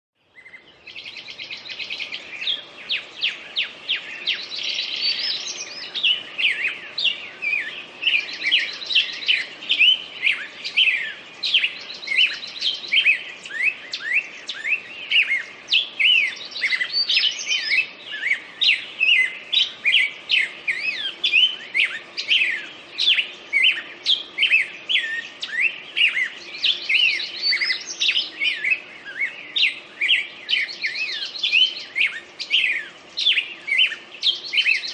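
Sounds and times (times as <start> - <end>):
songbirds chirping: 0.2 - 34.9
buzzy bird trills: 0.4 - 34.9.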